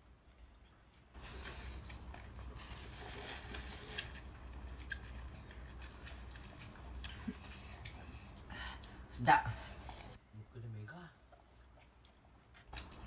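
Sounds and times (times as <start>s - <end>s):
people slurping and chewing: 1.2s - 10.2s, 11.3s - 13.0s.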